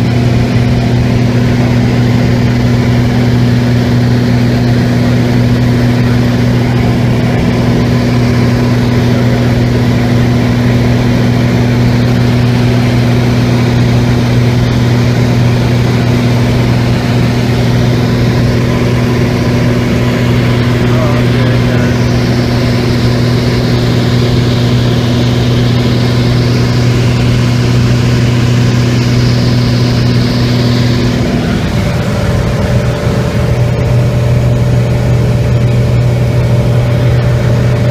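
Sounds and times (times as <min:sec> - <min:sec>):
small plane engine and propeller drone: 0:00.0 - 0:37.9.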